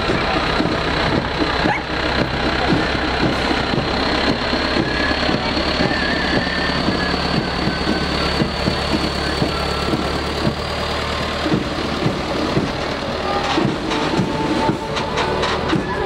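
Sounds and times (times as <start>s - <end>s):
large vehicle engine idling: 0.0s - 16.0s.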